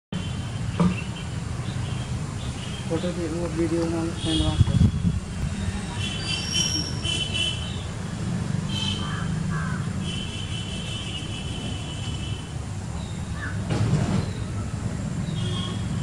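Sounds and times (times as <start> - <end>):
birds chirping and calling: 0.4 - 4.7, 5.6 - 16.0.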